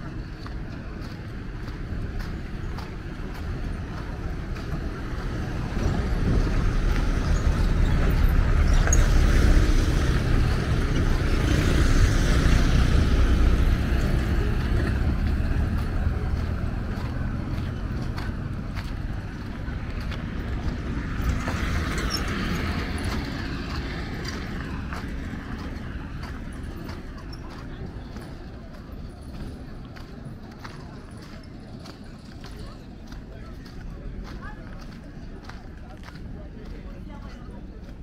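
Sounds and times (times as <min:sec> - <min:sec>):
vehicles driving on dirt road: 0:00.0 - 0:38.0.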